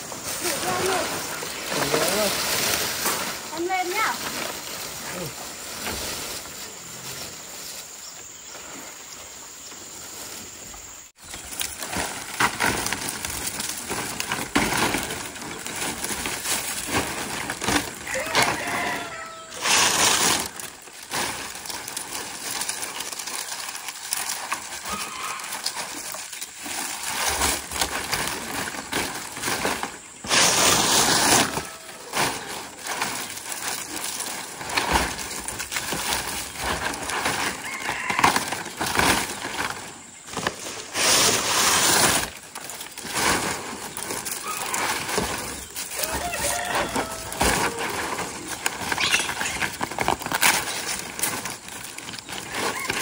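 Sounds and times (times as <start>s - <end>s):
dry palm leaves rustling: 0.0s - 53.0s.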